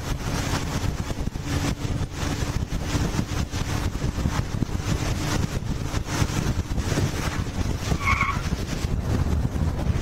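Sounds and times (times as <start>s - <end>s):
motorcycle engine drone: 0.0s - 10.0s
wind buffeting microphone: 0.0s - 10.0s.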